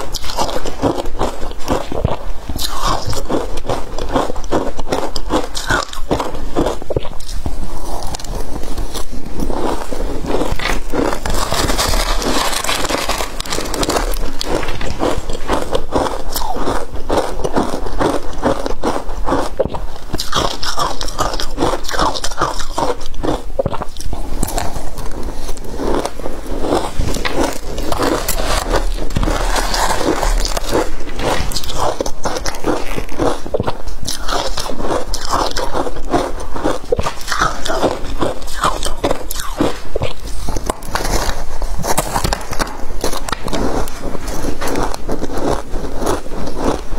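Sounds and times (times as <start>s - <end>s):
ice being crunched and chewed: 0.0s - 46.9s
metal spoon scraping ice: 2.6s - 42.2s.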